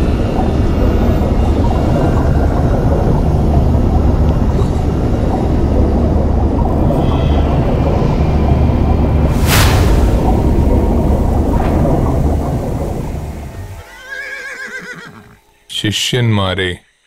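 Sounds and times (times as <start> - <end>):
deep underwater rumble: 0.0 - 13.8.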